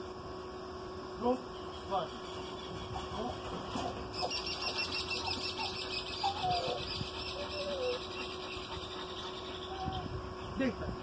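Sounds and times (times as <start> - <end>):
birds chirping: 0.6 - 10.8
lower gliding bird calls: 1.5 - 10.6.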